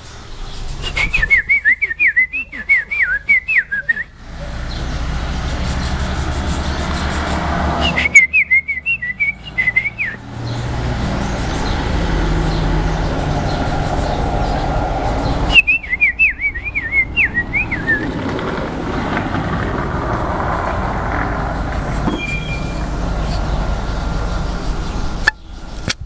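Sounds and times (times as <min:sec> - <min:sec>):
canary singing: 0:00.1 - 0:18.2, 0:21.9 - 0:25.8.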